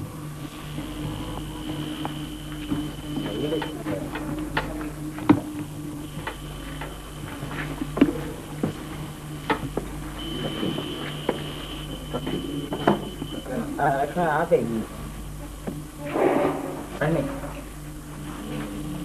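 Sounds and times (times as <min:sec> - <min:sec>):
faint high whine: 0:00.0 - 0:19.0
low hum: 0:00.0 - 0:19.0.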